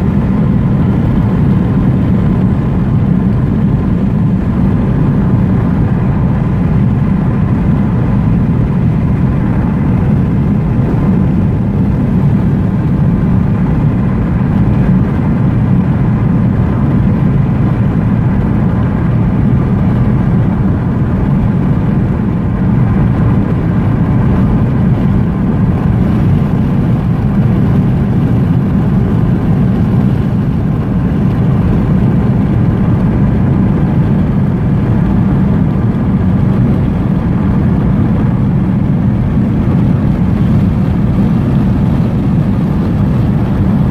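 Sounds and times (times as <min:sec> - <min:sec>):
car cabin road noise: 0:00.0 - 0:43.9.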